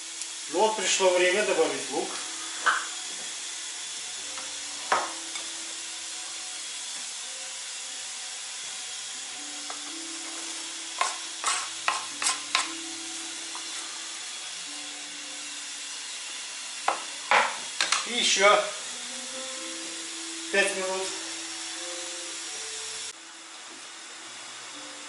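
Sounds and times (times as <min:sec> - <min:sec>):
meat sizzling in a pot: 0:00.0 - 0:25.0.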